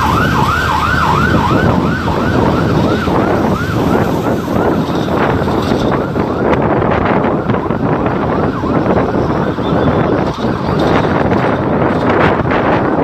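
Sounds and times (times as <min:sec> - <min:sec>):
ambulance siren yelping: 0:00.0 - 0:13.0
road and wind noise: 0:00.0 - 0:13.0.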